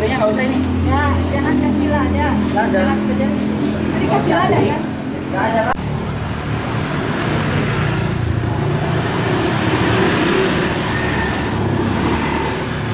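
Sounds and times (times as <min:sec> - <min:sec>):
cars and scooters in traffic: 0:00.0 - 0:12.9.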